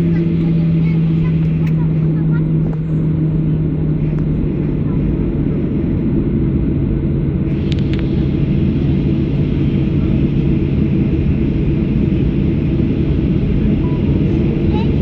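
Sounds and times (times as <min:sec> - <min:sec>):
airplane cabin engine rumble: 0:00.0 - 0:15.0
low hum: 0:00.0 - 0:15.0.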